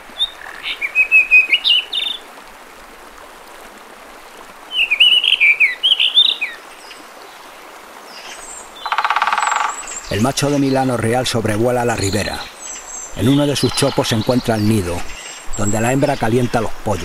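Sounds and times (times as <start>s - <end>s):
songbird chirping: 0.0s - 2.4s, 4.6s - 17.0s.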